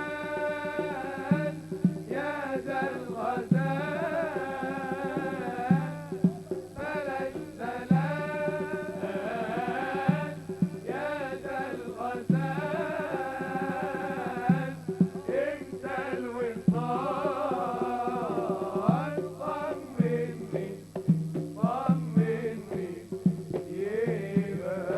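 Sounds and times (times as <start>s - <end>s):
percussion beat heavy hits: 0.0s - 24.9s.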